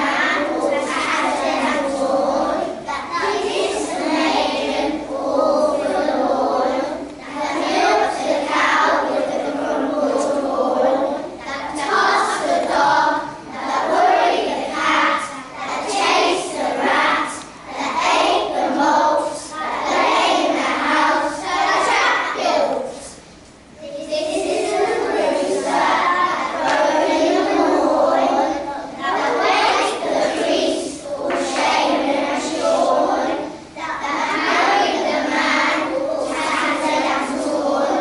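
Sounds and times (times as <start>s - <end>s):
children singing in unison: 0.0s - 23.2s, 24.0s - 38.0s.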